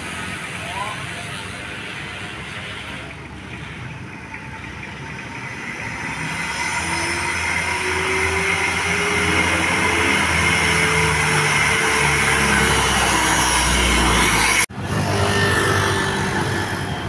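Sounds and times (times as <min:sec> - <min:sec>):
large vehicle engine approaching: 0:00.0 - 0:17.0
road noise: 0:00.0 - 0:17.0.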